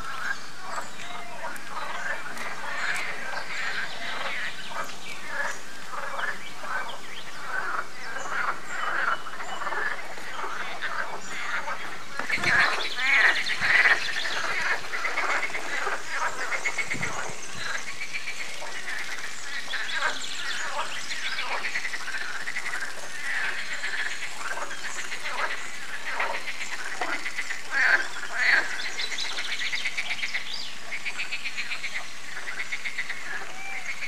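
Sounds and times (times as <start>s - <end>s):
chorus of frogs croaking: 0.0s - 34.0s.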